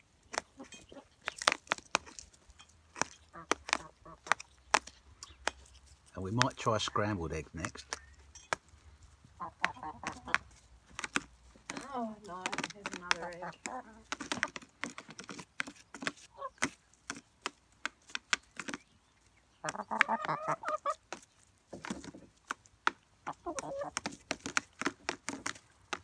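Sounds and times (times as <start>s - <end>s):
chickens squawking: 0.0s - 2.2s, 2.9s - 5.8s, 6.4s - 17.2s, 18.5s - 25.9s
beaks pecking eggshells: 0.0s - 26.0s.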